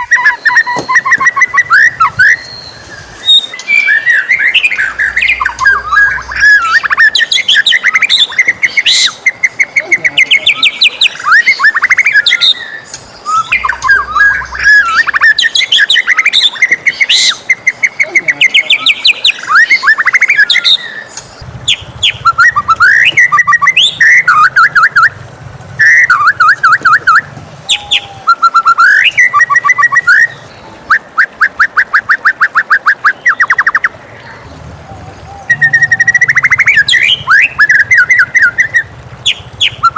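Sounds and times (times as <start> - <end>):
bird singing whistled phrases: 0.0 - 25.2, 25.8 - 33.9, 35.3 - 39.9.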